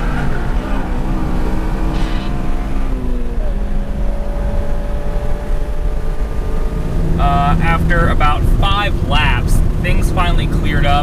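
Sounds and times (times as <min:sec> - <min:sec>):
car engine revving: 0:00.0 - 0:11.0
road and wind rumble: 0:00.0 - 0:11.0
steady whine: 0:00.0 - 0:11.0.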